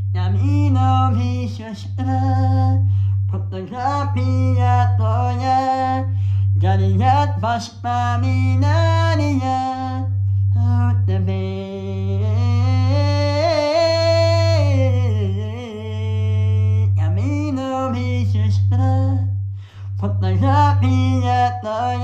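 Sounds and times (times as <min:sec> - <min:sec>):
low sustained bass note: 0:00.0 - 0:22.0
person singing with vibrato: 0:00.0 - 0:22.0.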